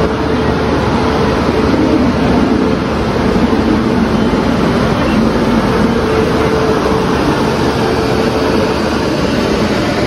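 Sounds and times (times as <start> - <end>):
train rumbling into station: 0.0 - 10.0.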